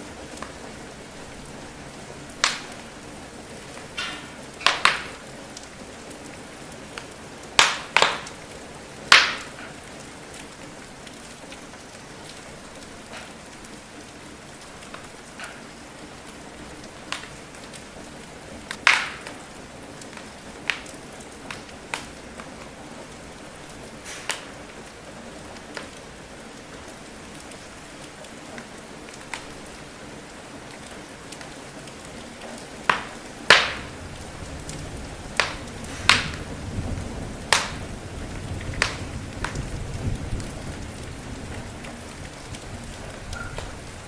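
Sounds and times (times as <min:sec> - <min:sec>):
steady rain hiss: 0:00.0 - 0:44.0
wood fire crackling: 0:00.0 - 0:44.0.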